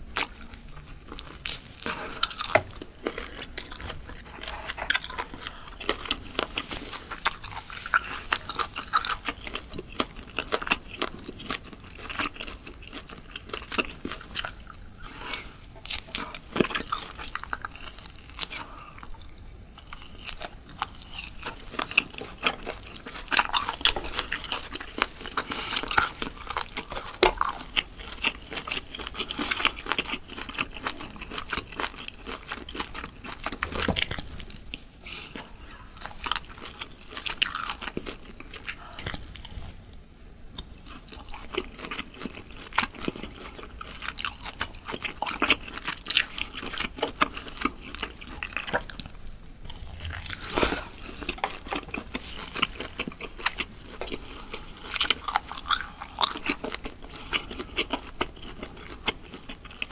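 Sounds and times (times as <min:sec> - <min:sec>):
biting and chewing meat: 0:00.0 - 0:59.9.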